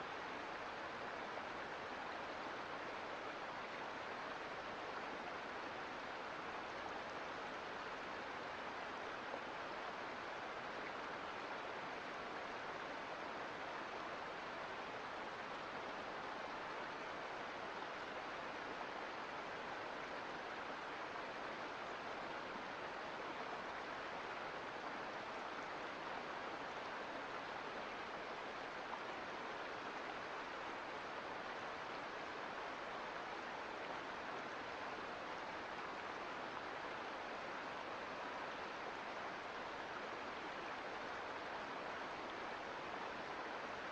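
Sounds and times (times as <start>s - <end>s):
mountain creek flowing: 0.0s - 43.9s.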